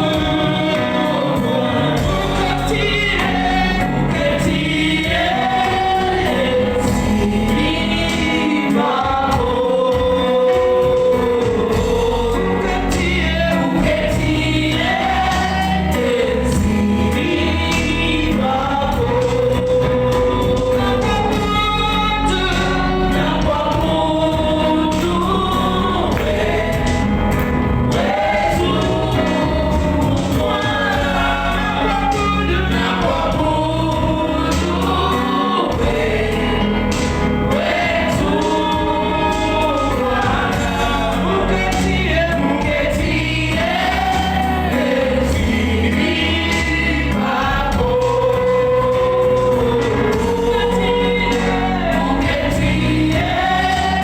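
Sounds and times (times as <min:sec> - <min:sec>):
choir singing: 0:00.0 - 0:54.0
instrumental backing with beat: 0:00.0 - 0:54.0.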